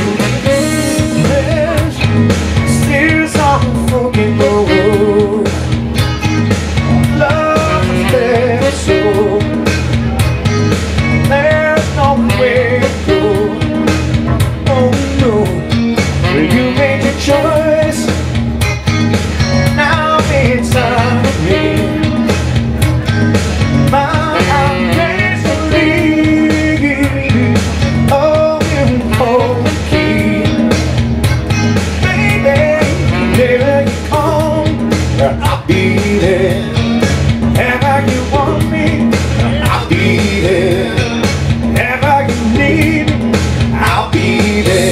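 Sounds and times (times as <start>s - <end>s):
live rock and roll music: 0.0s - 44.9s.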